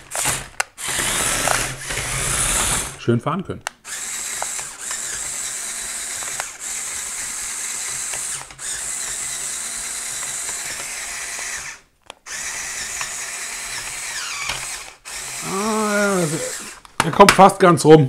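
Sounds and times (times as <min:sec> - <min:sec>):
toy tank turret motor whirring: 0:00.0 - 0:03.0, 0:03.8 - 0:16.9.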